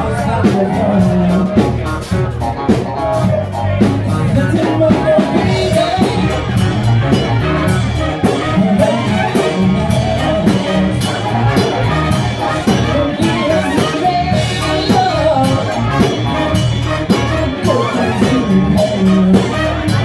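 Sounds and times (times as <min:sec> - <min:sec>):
guitar: 0:00.0 - 0:20.0
live band playing dance song: 0:00.0 - 0:20.0
steady drum beat: 0:00.0 - 0:20.0.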